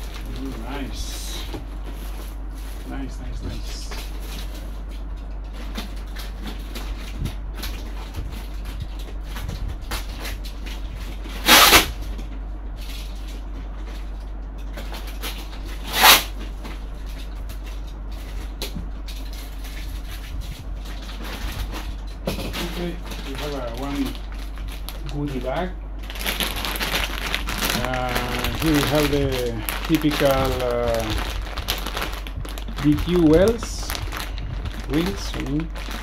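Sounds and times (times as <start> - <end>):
rustling plastic bags in a box: 0.0 - 14.1, 19.2 - 36.0
steady low hum: 0.0 - 36.0.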